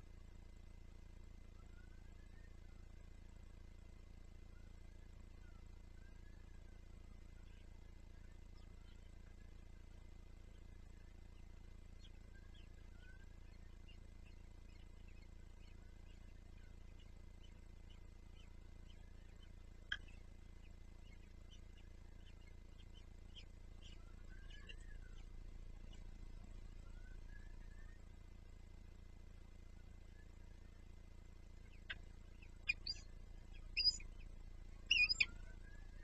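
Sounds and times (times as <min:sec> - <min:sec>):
small birds chirping: 0:00.0 - 0:36.0
steady low hum: 0:00.0 - 0:36.0.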